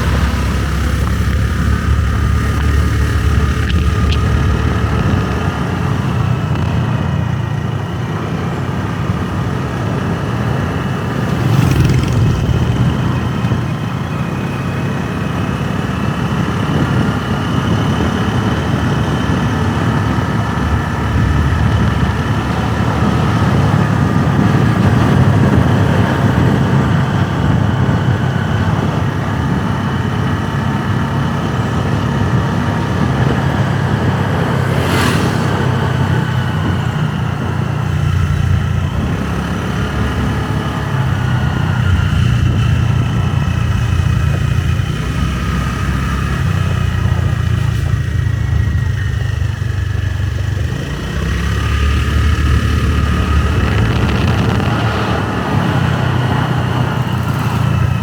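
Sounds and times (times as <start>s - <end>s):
motorbike engine running: 0.0s - 58.0s
road and wind rumble: 0.0s - 58.0s.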